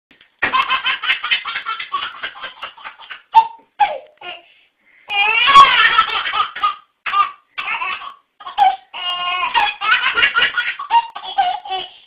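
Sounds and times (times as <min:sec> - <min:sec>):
small child laughing: 0:00.4 - 0:04.4, 0:05.2 - 0:12.0.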